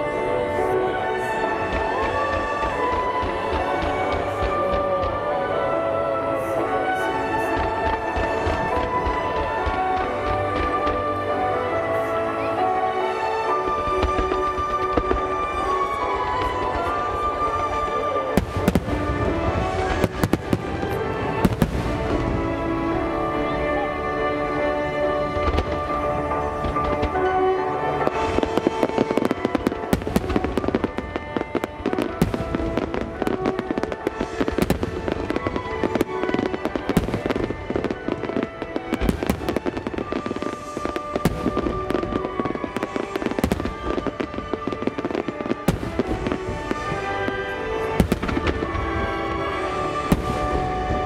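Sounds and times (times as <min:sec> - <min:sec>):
fireworks bangs: 0:00.0 - 0:05.8, 0:06.4 - 0:51.0
music with sustained tones: 0:00.0 - 0:51.0.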